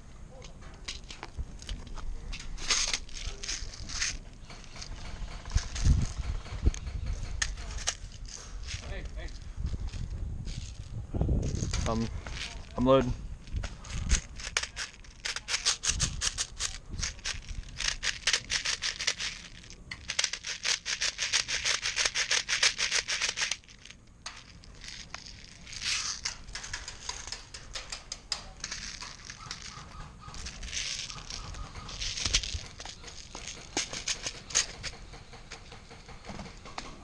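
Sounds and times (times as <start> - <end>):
rustling: 0.0 - 37.0.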